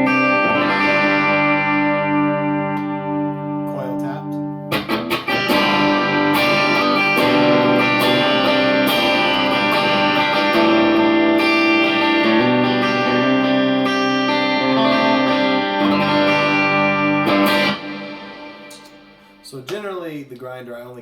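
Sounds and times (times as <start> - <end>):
electric guitar ringing chords: 0.0 - 19.7.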